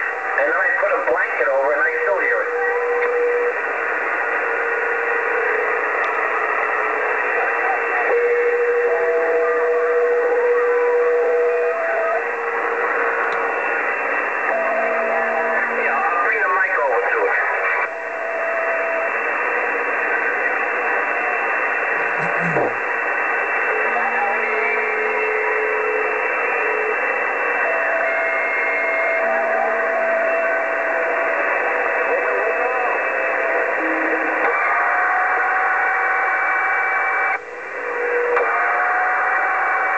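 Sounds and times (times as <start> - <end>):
radio static hiss: 0.0 - 39.9
whistling radio tones: 0.0 - 39.9.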